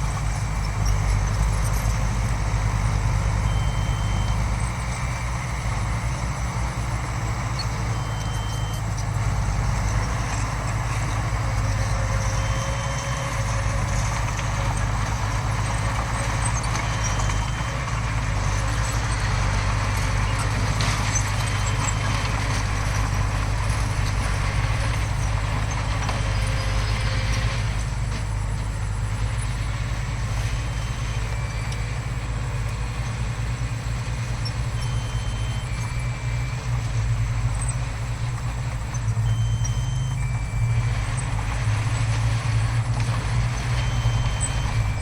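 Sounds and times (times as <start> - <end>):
heavy diesel machinery running: 0.0 - 45.0.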